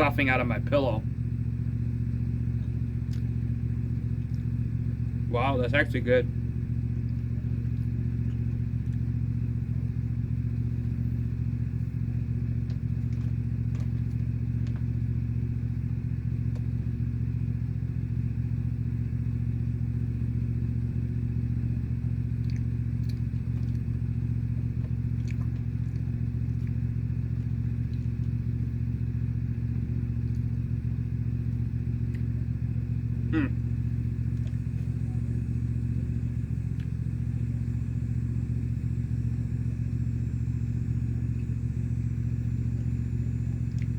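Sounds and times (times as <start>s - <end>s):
lawnmower engine running: 0.0s - 43.9s.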